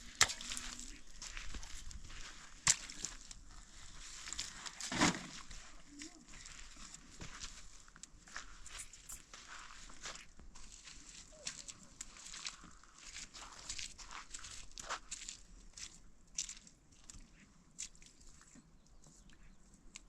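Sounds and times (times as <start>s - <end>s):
irregular crunching and crackling: 0.0s - 17.2s.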